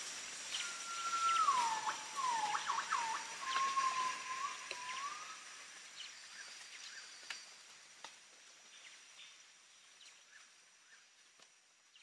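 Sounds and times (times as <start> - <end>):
faint rain hiss: 0.0 - 12.0.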